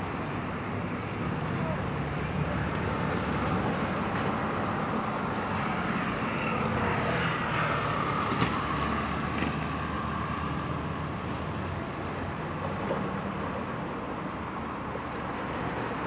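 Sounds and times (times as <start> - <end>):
noisy outdoor background: 0.0 - 16.0.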